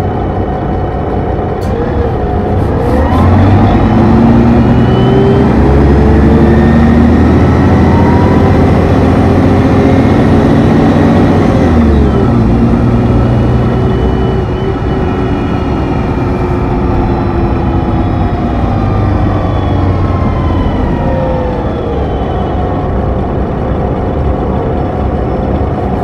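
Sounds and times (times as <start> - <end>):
bus diesel engine running: 0.0 - 26.0
gear whine: 0.0 - 26.0.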